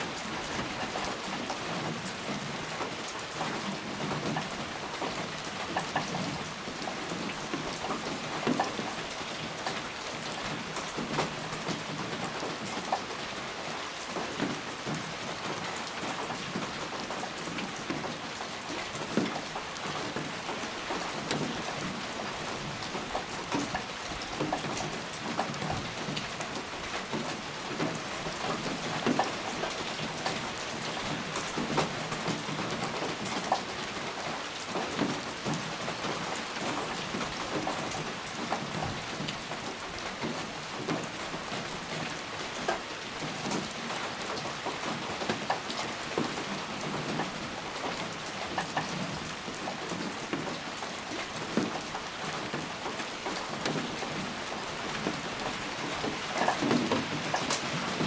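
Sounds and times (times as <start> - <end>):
raindrops hitting close by: 0.0 - 58.0
steady rain falling: 0.0 - 58.0.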